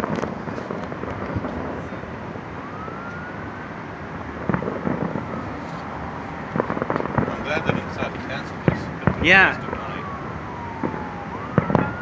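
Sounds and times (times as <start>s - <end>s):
distant fireworks bangs: 0.0s - 2.7s, 4.2s - 12.0s
city noise: 0.0s - 12.0s
faint emergency siren wailing: 0.0s - 12.0s.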